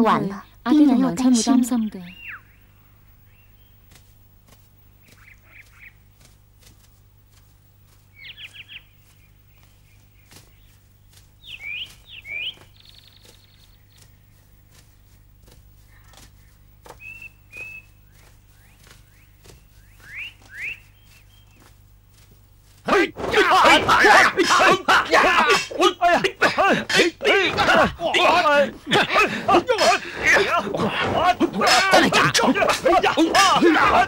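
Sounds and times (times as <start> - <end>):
birds chirping: 0.0 - 34.0
faint steady hum: 0.0 - 34.0.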